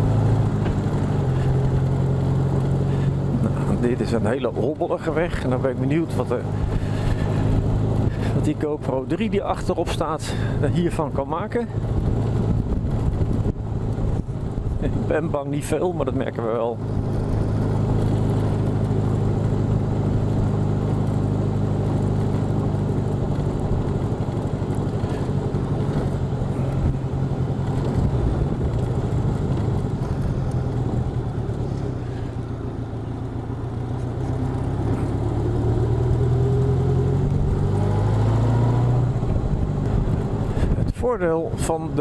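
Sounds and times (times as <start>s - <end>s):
motorcycle engine cruising: 0.0s - 42.0s
road and wind noise: 0.0s - 42.0s.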